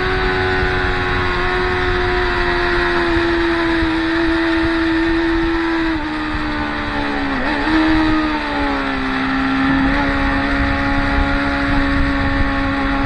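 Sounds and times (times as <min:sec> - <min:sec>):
motorcycle engines at high revs: 0:00.0 - 0:13.0.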